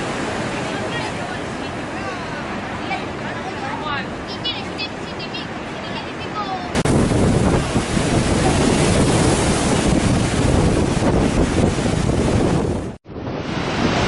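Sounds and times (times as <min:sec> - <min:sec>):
storm surf crashing: 0:00.0 - 0:14.0
wind buffeting microphone: 0:00.0 - 0:14.0.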